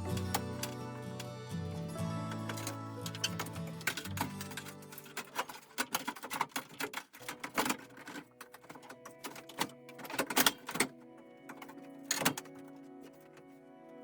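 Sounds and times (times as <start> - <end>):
quiet background music: 0.0 - 14.0
clicks and light knocks: 2.3 - 14.0.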